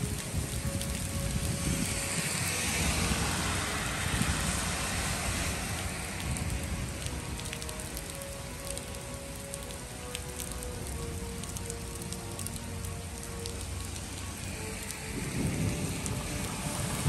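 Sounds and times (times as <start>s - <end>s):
heavy rain on street: 0.0s - 17.0s
raindrops ticking: 0.0s - 17.0s
tyres swishing on wet road: 0.0s - 17.0s.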